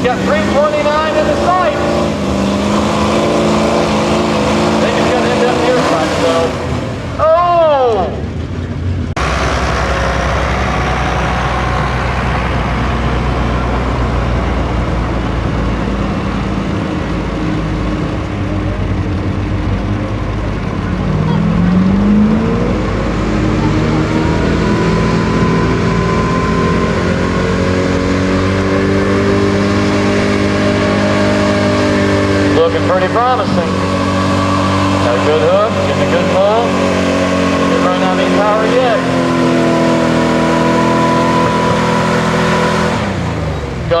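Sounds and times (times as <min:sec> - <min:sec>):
pickup truck engine running hard: 0:00.0 - 0:44.0.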